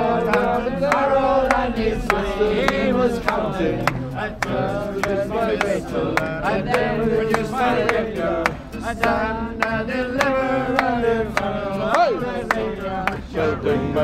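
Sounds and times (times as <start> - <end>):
men singing folk tune: 0.0 - 14.0
strummed acoustic guitar: 0.0 - 14.0.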